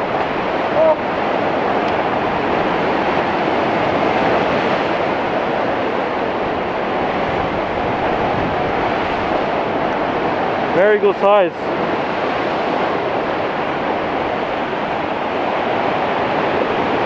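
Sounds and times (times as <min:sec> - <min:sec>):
ocean surf breaking on rocks: 0:00.0 - 0:17.0.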